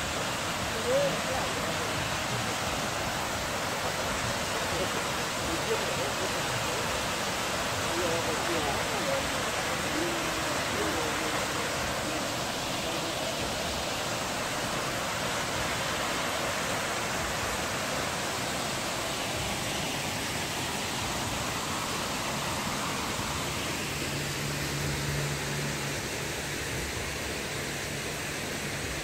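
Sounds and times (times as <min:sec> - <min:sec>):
water fountain splashing: 0:00.0 - 0:29.0.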